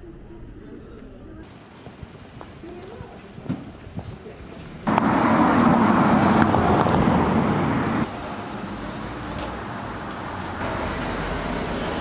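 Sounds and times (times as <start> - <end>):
street traffic: 1.4 - 12.0.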